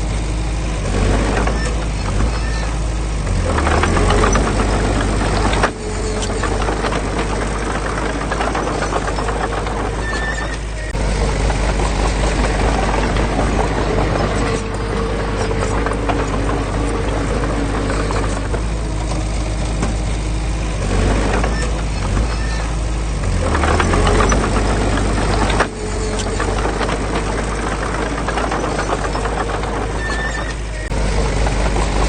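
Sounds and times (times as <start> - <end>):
diesel engine running under load: 0.0 - 32.0
metallic clatter: 0.8 - 32.0.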